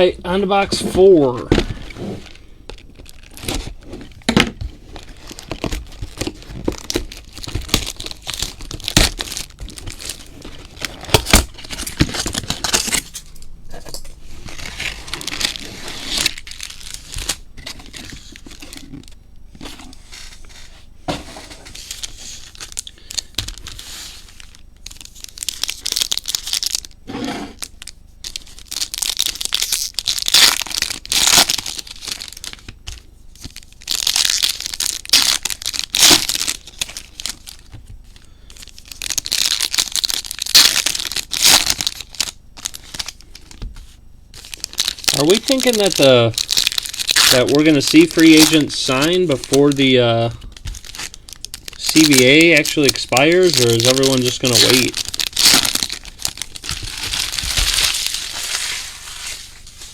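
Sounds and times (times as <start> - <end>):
plastic wrapping tearing and crinkling: 1.0 - 19.2, 21.6 - 59.9.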